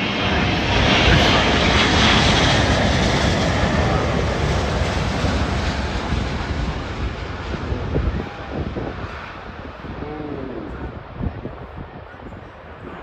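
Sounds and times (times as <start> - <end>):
jet plane passing low: 0.0 - 13.0.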